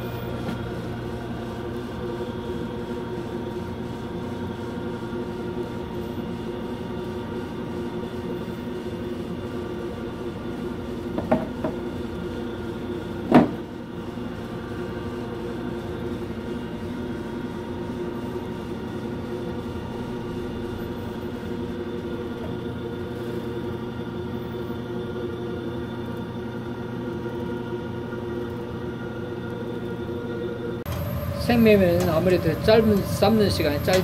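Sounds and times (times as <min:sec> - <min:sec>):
noodle press motor humming: 0:00.0 - 0:34.0.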